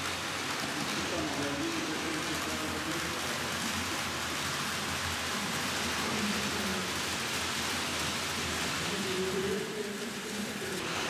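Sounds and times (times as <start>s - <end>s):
model train running on track: 0.0s - 11.0s
murmur of voices: 0.4s - 11.0s.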